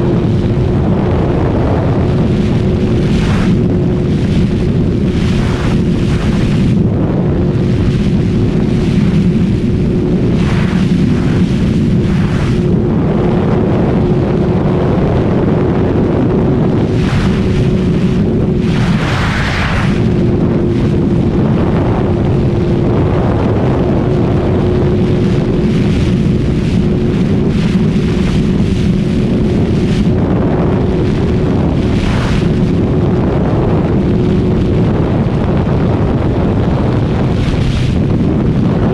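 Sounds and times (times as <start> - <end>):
motorcycle engine at high rpm: 0.0 - 38.9
wind rush on microphone: 0.0 - 38.9.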